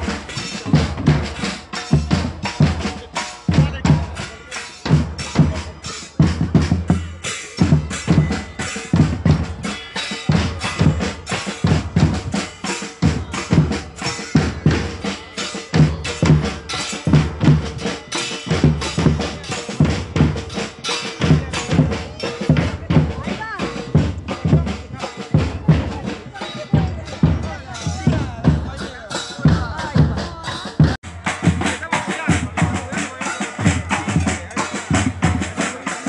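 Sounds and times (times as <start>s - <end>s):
percussion music: 0.0s - 36.0s.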